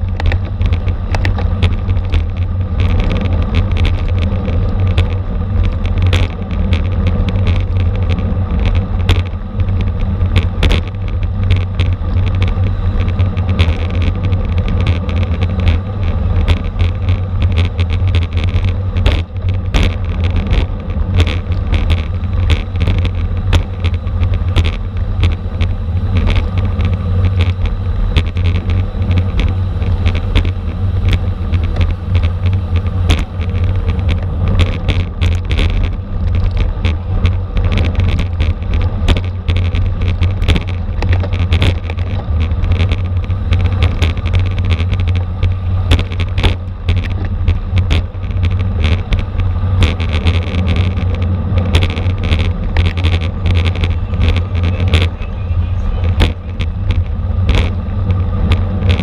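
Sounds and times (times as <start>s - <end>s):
sharp clicks and rattles: 0.0s - 59.0s
wind noise on microphone: 0.0s - 59.0s.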